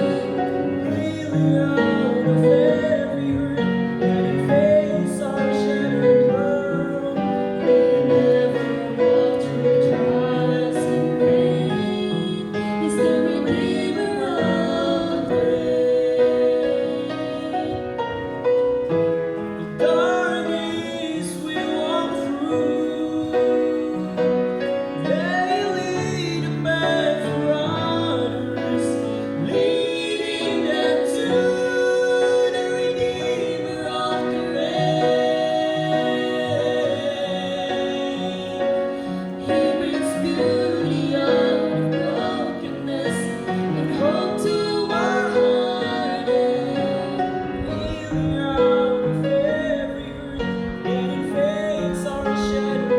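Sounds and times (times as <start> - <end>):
piano accompaniment: 0.0 - 52.9
singers performing gospel song: 0.0 - 52.9.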